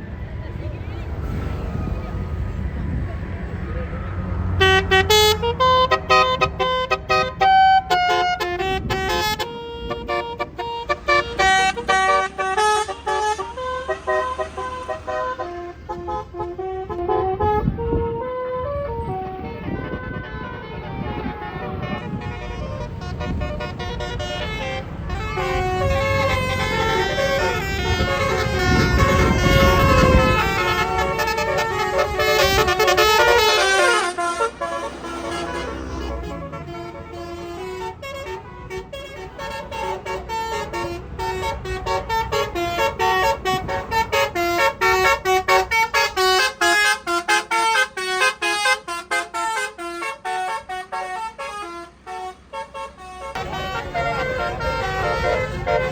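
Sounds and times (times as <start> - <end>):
bus musical horn tune: 4.5 - 55.9.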